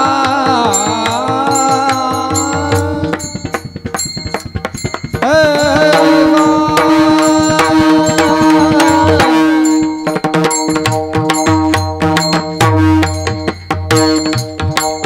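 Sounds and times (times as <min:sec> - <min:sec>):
tabla beats: 0:00.0 - 0:15.0.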